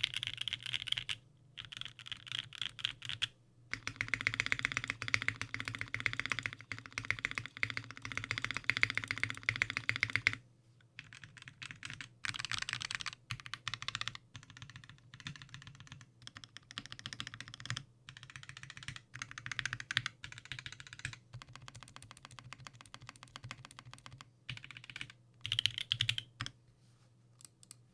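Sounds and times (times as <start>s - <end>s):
faint steady low hum: 0.0s - 27.9s.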